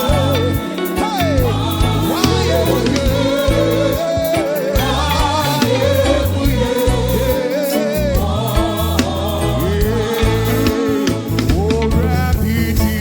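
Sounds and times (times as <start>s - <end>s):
choir singing: 0.0s - 12.5s
lead singer: 0.0s - 13.0s
live band with bass and drums: 0.0s - 13.0s.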